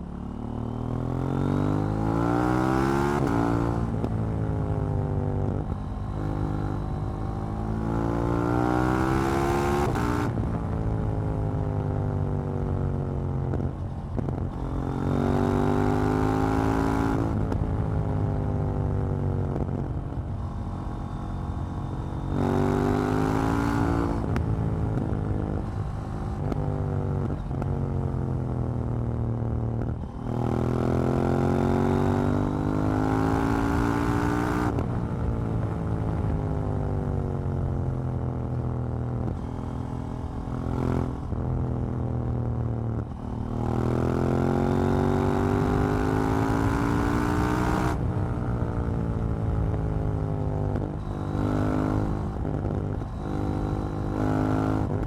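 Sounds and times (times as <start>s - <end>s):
motorcycle engine accelerating hard: 0.0s - 55.0s.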